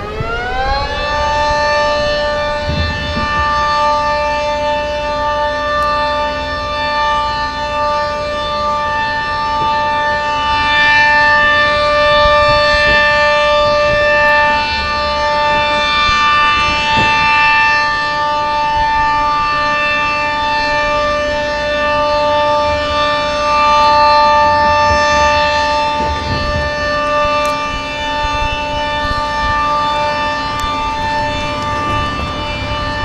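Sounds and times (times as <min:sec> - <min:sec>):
two-tone warning siren: 0:00.0 - 0:33.0.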